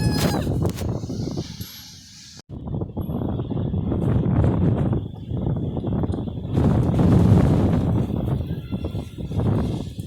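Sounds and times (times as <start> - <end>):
strong gusting wind on microphone: 0.0 - 10.0.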